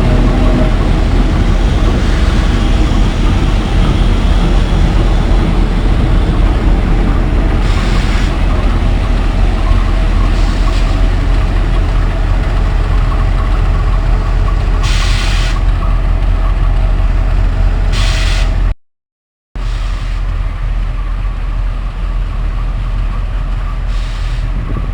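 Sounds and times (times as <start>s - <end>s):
train rumbling on rails: 0.0s - 18.8s, 19.6s - 24.9s.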